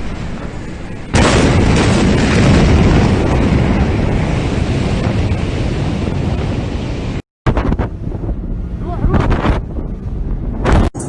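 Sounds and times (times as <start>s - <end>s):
explosion roar: 0.0s - 11.0s.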